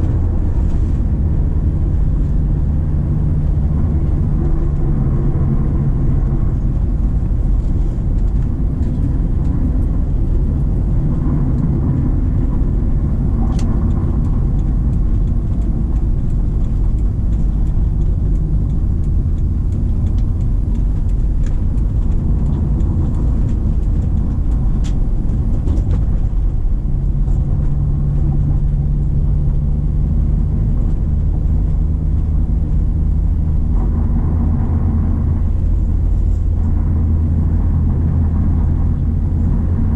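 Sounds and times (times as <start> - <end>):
car engine pulling uphill: 0.0 - 39.9
tyre and road rumble on concrete: 0.0 - 39.9.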